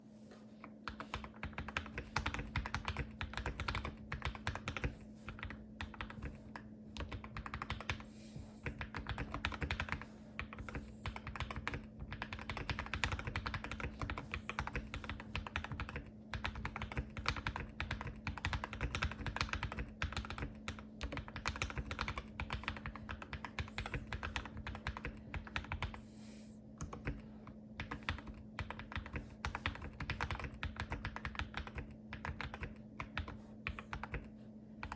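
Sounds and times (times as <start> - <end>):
faint steady hum: 0.0 - 34.9
fast typing on mechanical keyboard: 0.8 - 26.0, 26.8 - 34.9.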